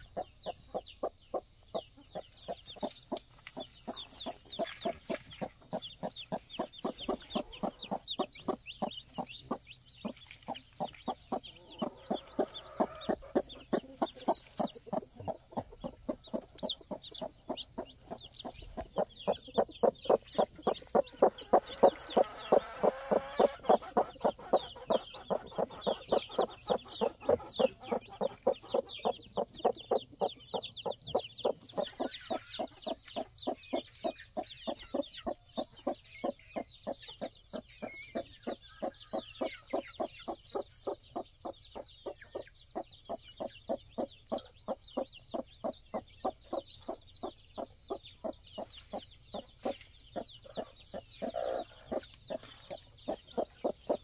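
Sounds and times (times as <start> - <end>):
chicks peeping: 0.0 - 54.0
hen clucking: 0.0 - 54.0.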